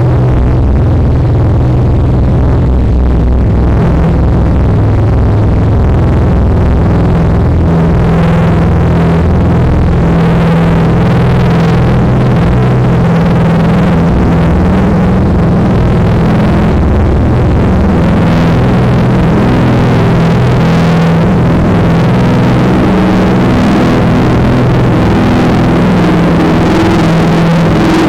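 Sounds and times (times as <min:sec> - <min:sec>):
distorted low electronic drone: 0:00.0 - 0:28.0.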